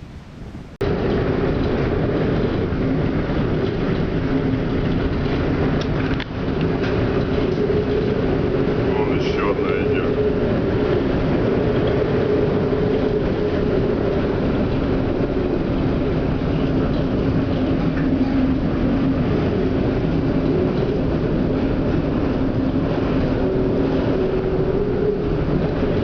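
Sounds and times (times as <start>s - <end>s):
loud wind: 0.0s - 26.0s
sea noise: 0.0s - 26.0s
low wavering drone: 0.8s - 26.0s.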